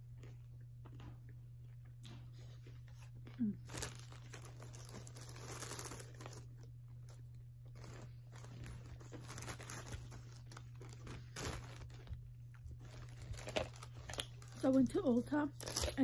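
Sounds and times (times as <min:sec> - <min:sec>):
plastic bag crinkling: 0:03.0 - 0:16.0.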